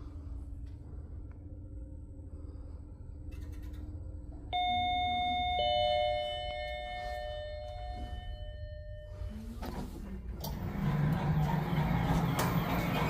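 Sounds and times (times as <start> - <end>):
low lift hum: 0.0 - 13.0.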